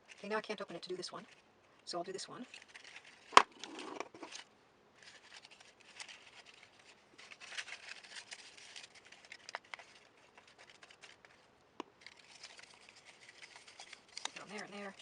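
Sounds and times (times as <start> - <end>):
paper rustling and crinkling: 0.0 - 1.5, 2.4 - 15.0.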